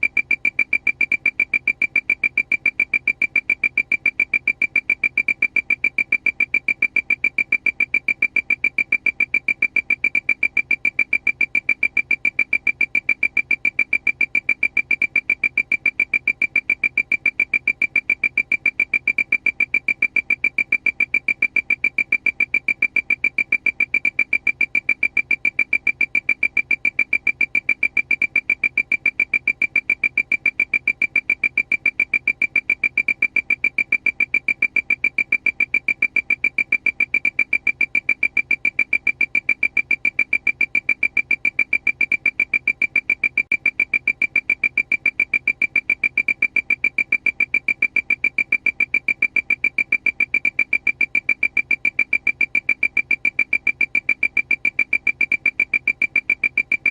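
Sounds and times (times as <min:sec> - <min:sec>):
high-pitched electronic alarm beeps: 0:00.0 - 0:56.9.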